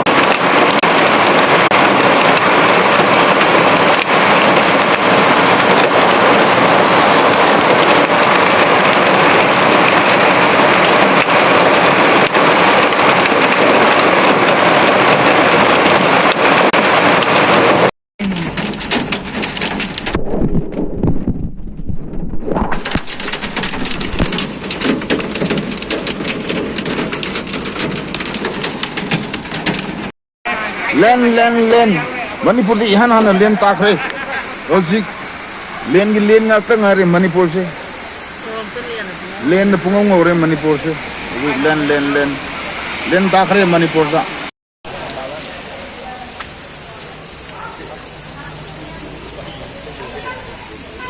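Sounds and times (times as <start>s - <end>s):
heavy rain falling: 0.0s - 51.0s.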